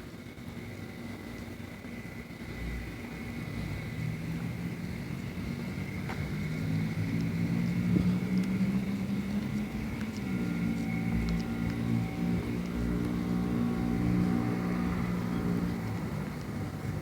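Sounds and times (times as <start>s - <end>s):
vehicle engine humming: 2.4s - 17.0s.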